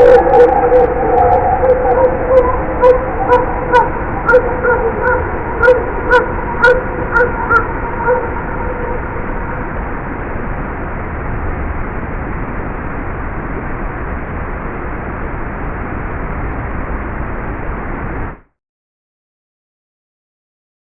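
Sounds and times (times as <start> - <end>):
low rumble: 0.0 - 18.4.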